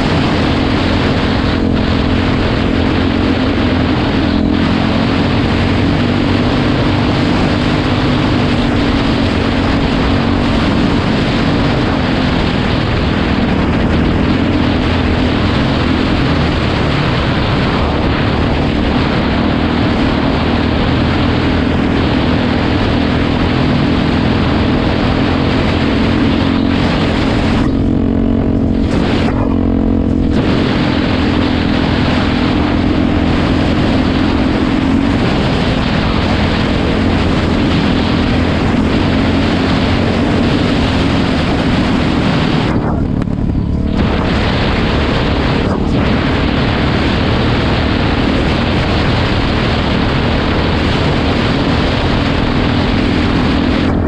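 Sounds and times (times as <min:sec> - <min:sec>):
dirt bike engine running: 0:00.0 - 0:54.0
wind rush on microphone: 0:00.0 - 0:54.0.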